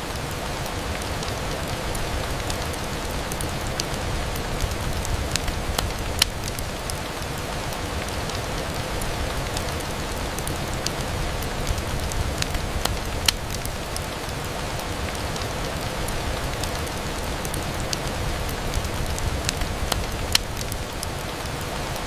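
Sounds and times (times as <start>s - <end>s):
rain on a window: 0.0s - 22.0s
ticks of raindrops: 0.0s - 22.0s.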